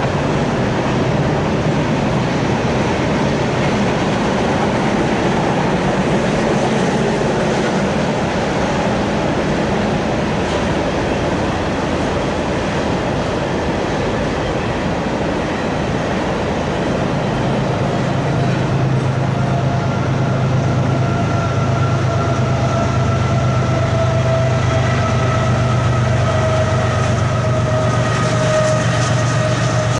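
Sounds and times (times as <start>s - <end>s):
steel wheels rumbling on rail: 0.0s - 29.9s.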